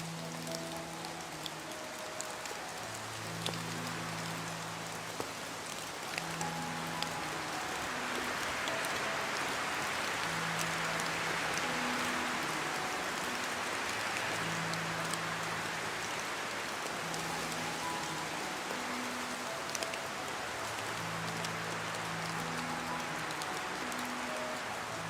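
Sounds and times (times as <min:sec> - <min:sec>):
sharp raindrop ticks: 0:00.0 - 0:25.0
slow music of low held notes: 0:00.0 - 0:25.0
steady rain falling: 0:00.0 - 0:25.0.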